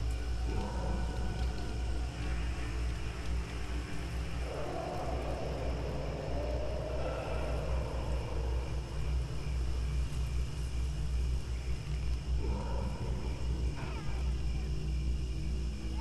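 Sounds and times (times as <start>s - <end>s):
low rumbling wind: 0.0s - 16.0s
wavering wind moan: 0.0s - 16.0s.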